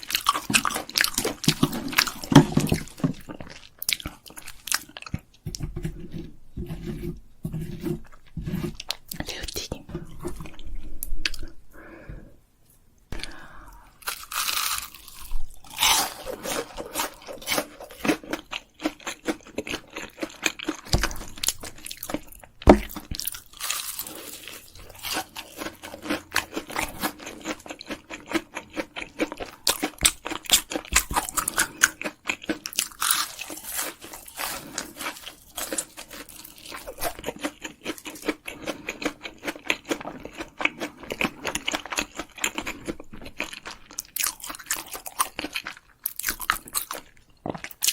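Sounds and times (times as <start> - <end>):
person crunching and chewing food: 0.0 - 11.6, 13.1 - 47.9.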